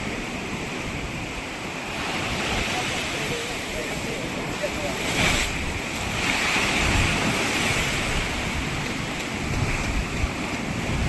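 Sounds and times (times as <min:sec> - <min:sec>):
waves breaking on a beach: 0:00.0 - 0:11.0
wind buffeting microphone: 0:00.0 - 0:11.0.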